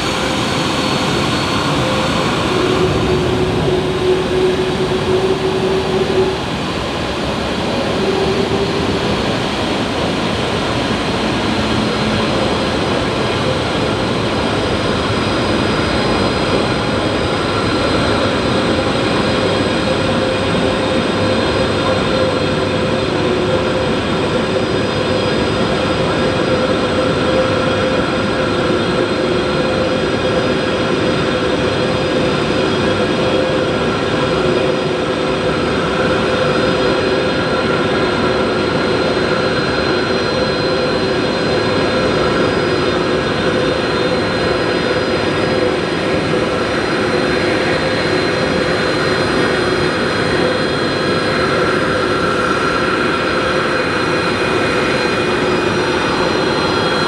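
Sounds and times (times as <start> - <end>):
jet engines running steadily: 0.0 - 57.0.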